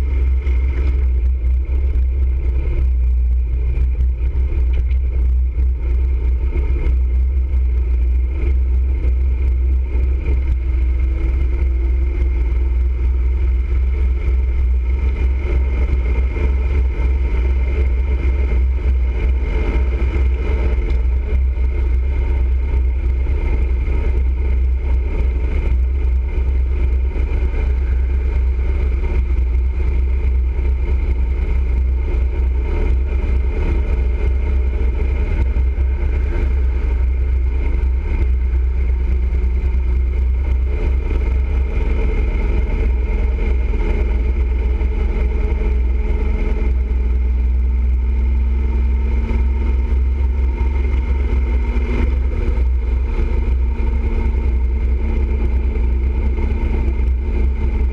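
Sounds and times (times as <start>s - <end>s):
motorcycle engine hum: 0.0s - 57.9s
wind and road noise: 0.0s - 57.9s.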